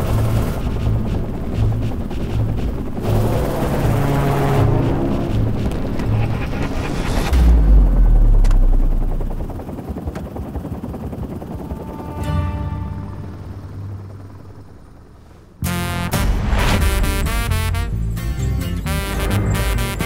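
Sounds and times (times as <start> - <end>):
helicopter rotor chopping: 0.0 - 20.0.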